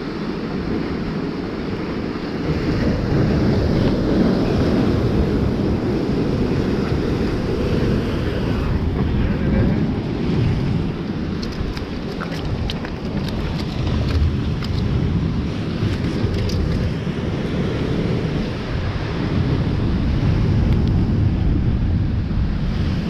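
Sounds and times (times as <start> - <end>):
sea surf on rocks: 0.0 - 23.0
wind buffeting microphone: 0.0 - 23.0.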